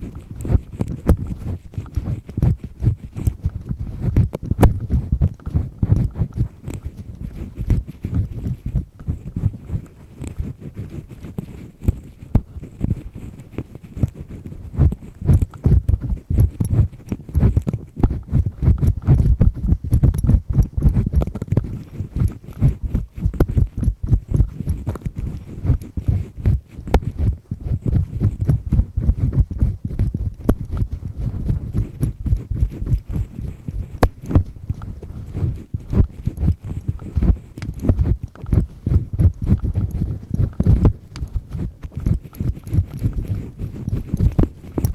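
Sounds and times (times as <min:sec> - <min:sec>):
ear pick scraping in ear: 0:00.0 - 0:44.9.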